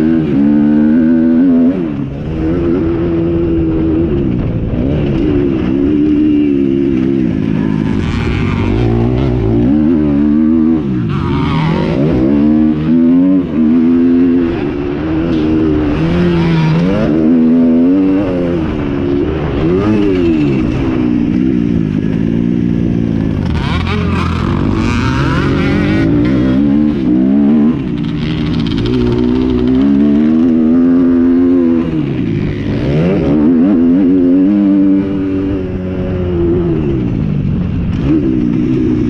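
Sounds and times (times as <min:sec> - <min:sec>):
motocross motorcycle engines revving: 0:00.0 - 0:39.0.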